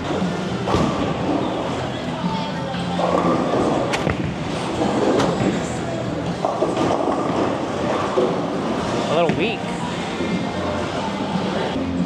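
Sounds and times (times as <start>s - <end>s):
bowling alley background: 0.0s - 12.0s.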